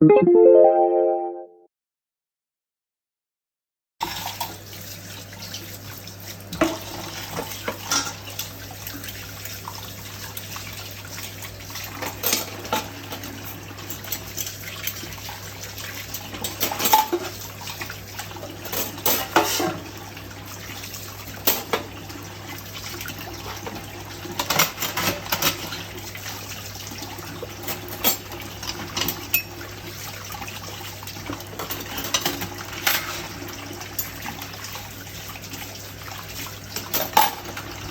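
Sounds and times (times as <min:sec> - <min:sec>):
running tap water: 0:04.1 - 0:37.9.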